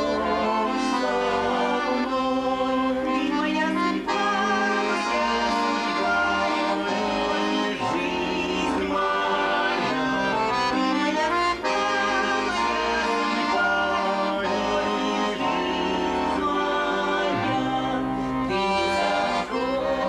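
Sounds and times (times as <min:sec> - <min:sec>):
accordion music: 0:00.0 - 0:20.0.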